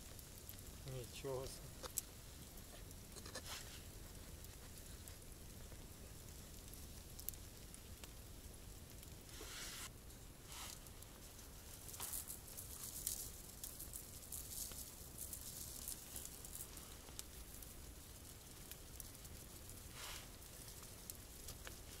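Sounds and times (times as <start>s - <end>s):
campfire crackling: 0.0s - 22.0s
food sizzling on embers: 0.0s - 22.0s.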